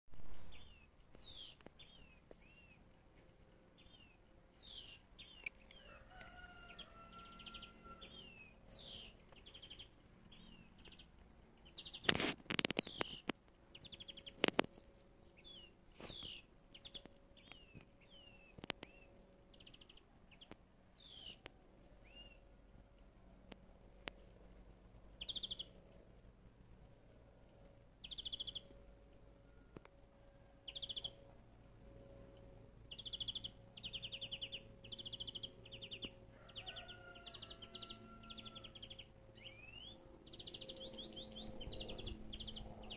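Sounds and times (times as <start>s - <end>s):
songbird singing: 0.1s - 26.1s, 27.1s - 42.9s.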